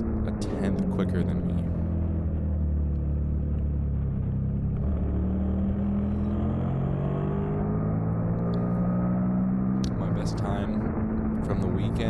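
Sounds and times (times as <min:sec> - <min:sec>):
motorcycle engine accelerating: 0:00.0 - 0:12.0
wind and road noise: 0:00.0 - 0:12.0.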